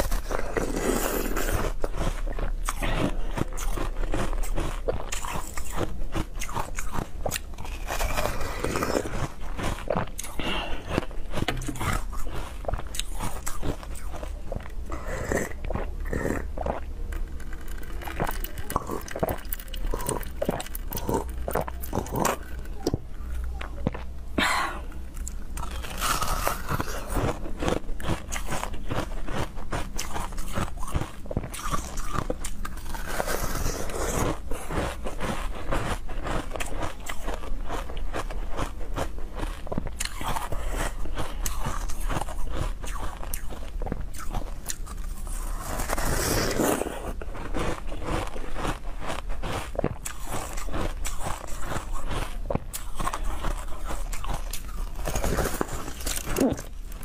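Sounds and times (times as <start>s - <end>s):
crunching and chewing ice: 0.0s - 57.0s.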